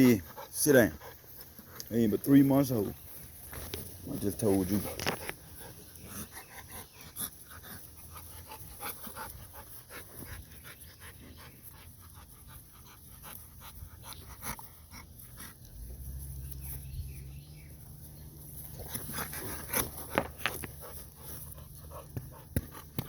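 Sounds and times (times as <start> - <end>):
puppies panting: 0.0 - 23.0.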